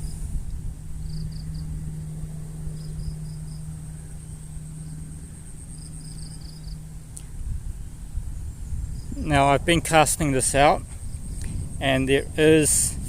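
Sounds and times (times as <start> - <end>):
insects chirping and trilling: 0.0 - 12.9
low rumble: 0.0 - 13.0
steady low hum: 0.0 - 13.0.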